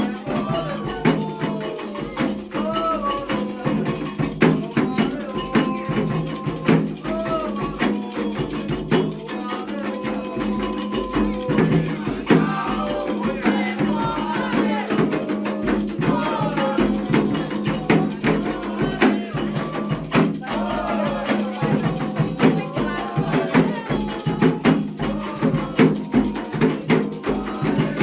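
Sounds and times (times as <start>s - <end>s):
drums: 0.0s - 28.0s
struck percussion: 0.0s - 28.0s
voices singing a chant: 0.0s - 28.0s.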